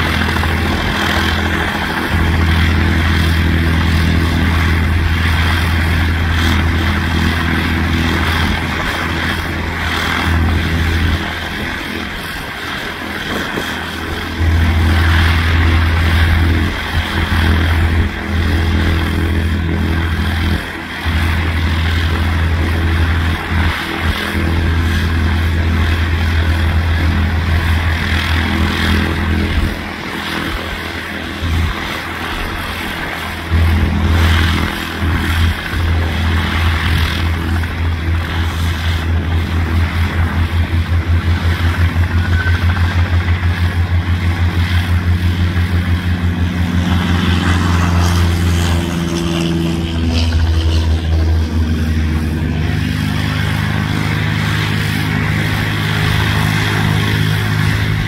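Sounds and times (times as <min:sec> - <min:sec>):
small plane engine and propeller: 0:00.0 - 0:58.0.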